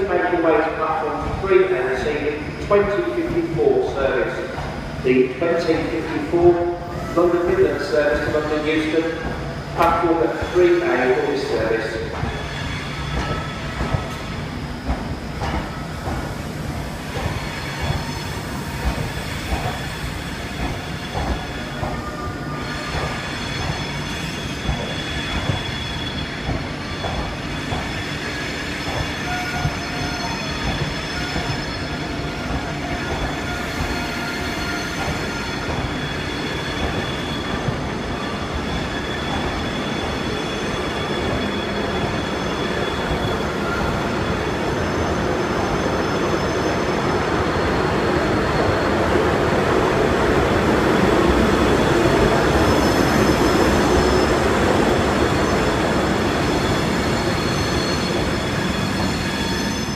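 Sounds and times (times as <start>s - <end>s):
train wheel squeal: 0.0s - 59.9s.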